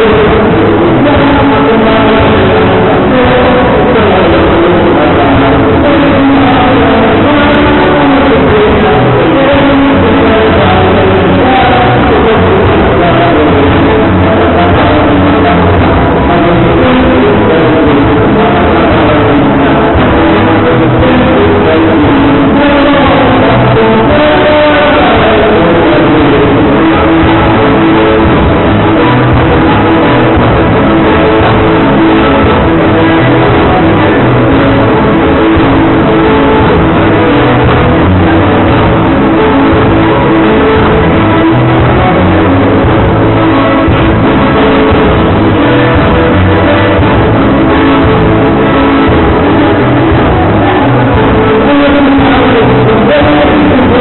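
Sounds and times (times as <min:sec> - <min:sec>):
loud dance band music: 0:00.0 - 0:54.0.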